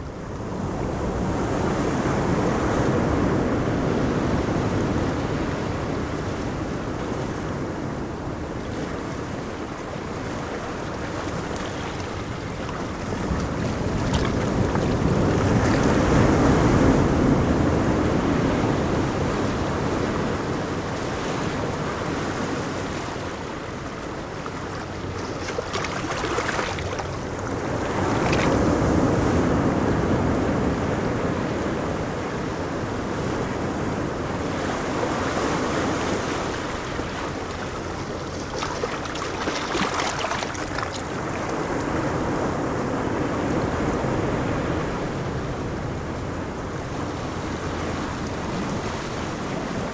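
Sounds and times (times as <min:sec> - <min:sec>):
ocean waves breaking: 0:00.0 - 0:49.9
wind rumble on microphone: 0:00.0 - 0:49.9.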